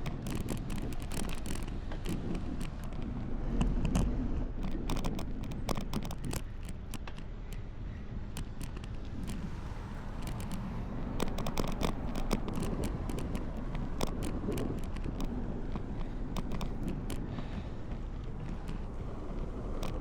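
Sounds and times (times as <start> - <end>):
bicycle clicks and rattles: 0.0 - 20.0
wind rumble on microphone: 0.0 - 20.0.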